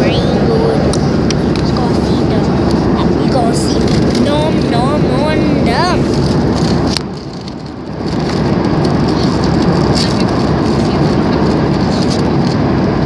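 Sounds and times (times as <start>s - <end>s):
airliner cabin engine and airflow noise: 0.0s - 13.0s.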